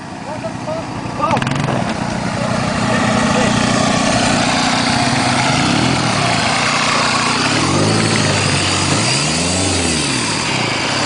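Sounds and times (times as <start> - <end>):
constant rushing noise: 0.0 - 11.0
vehicle engine revving: 0.0 - 11.0.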